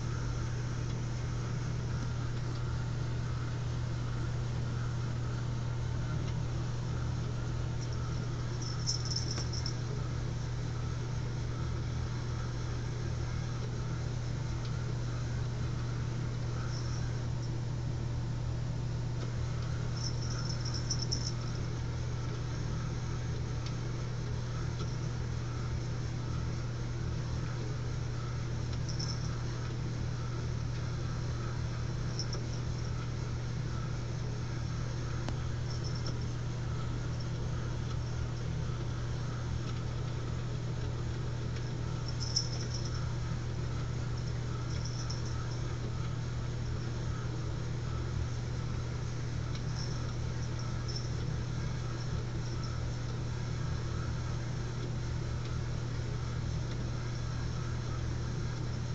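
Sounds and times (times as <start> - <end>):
small motor humming: 0.0 - 17.7, 19.2 - 55.6.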